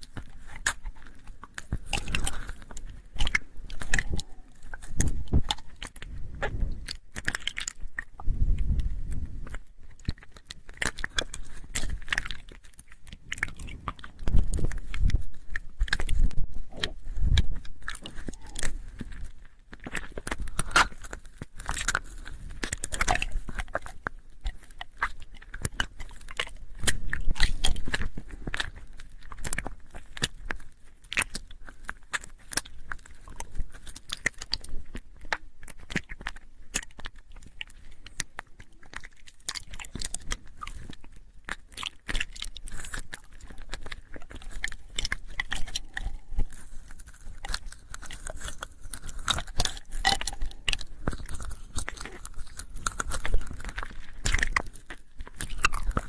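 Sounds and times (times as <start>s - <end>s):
mouth clicks and smacks: 0.0s - 56.0s.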